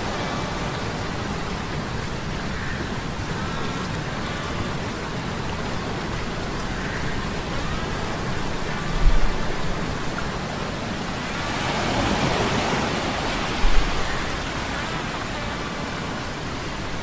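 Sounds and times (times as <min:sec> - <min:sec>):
rain and surf rushing: 0:00.0 - 0:17.0.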